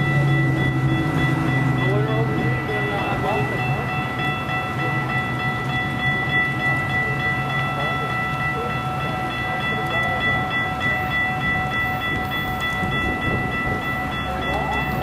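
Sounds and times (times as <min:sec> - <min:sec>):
continuous high ringing tone: 0:00.0 - 0:15.0
train rumble: 0:00.0 - 0:15.0.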